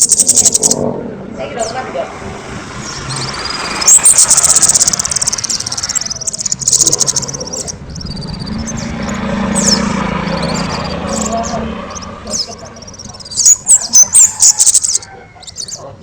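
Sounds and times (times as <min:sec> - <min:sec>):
songbird trilling and whistling: 0:00.0 - 0:00.8, 0:02.8 - 0:15.9
steady low hum: 0:00.0 - 0:15.6.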